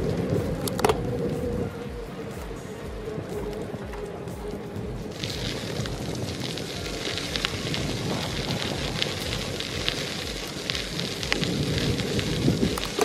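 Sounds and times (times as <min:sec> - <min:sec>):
bicycle tyres crunching on gravel: 0:00.0 - 0:13.0
wind on microphone: 0:00.0 - 0:13.0.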